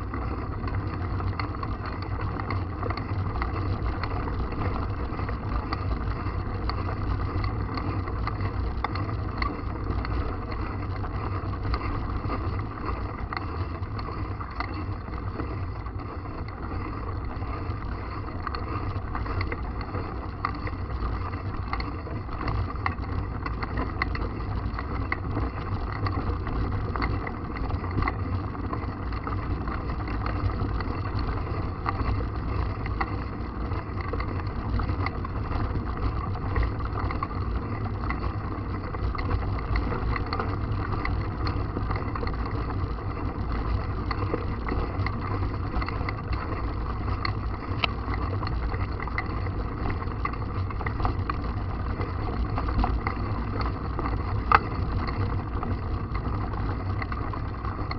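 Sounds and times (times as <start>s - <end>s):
bike clicks and rattles: 0.0s - 57.9s.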